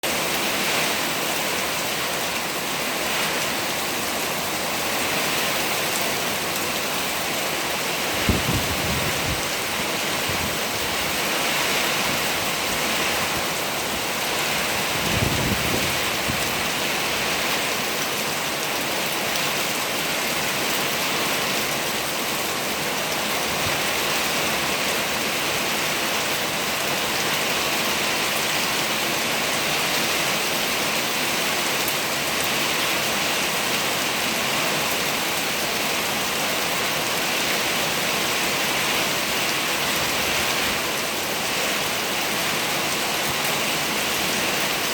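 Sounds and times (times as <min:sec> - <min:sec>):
rain in wind: 0:00.0 - 0:44.9.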